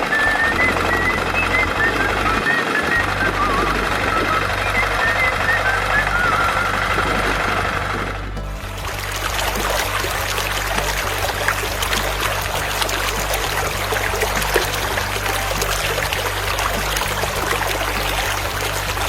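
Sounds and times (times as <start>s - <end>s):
low hum: 0.0s - 19.0s
water running and trickling: 0.0s - 19.0s.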